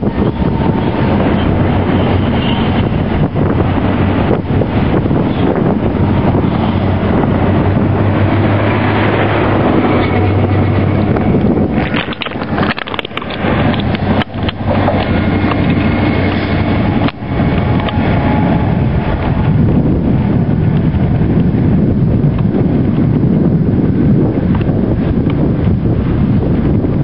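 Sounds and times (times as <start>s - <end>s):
train approaching: 0.0s - 23.0s
diesel train drone: 0.0s - 27.0s
wind buffeting microphone: 0.0s - 27.0s.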